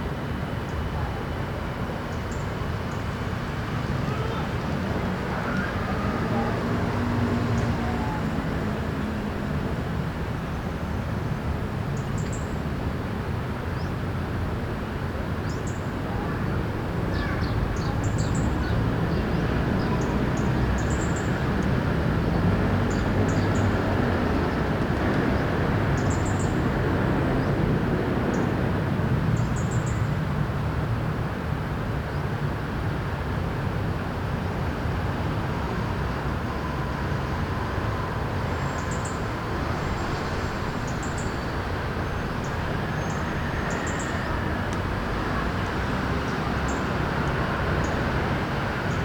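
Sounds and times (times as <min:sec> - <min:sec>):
city traffic hum: 0:00.0 - 0:49.0.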